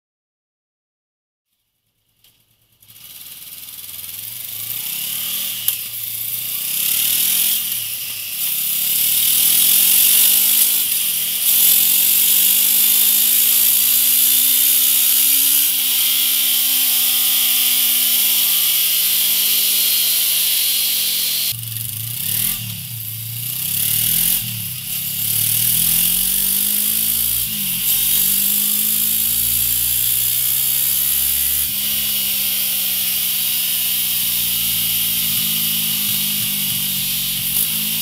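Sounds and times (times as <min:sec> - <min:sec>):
motorcycle engine accelerating: 0:01.6 - 0:38.0
tyre hiss on dyno roller: 0:02.8 - 0:38.0.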